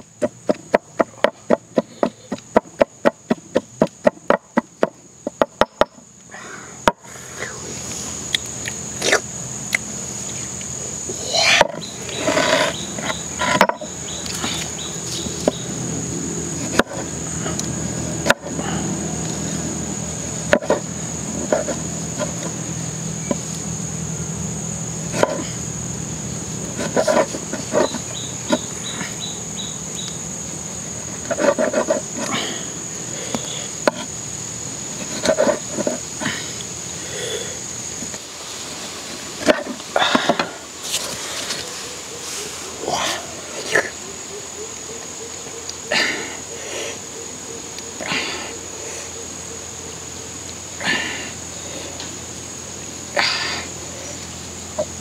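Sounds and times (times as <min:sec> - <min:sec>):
insect drone: 0:00.0 - 0:55.0.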